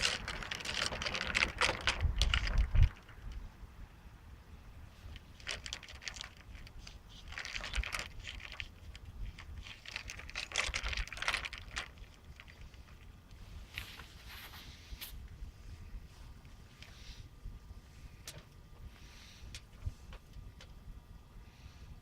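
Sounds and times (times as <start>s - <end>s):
rustling and crinkling: 0.0s - 3.5s, 4.9s - 20.9s
low steady rumble: 0.0s - 22.0s.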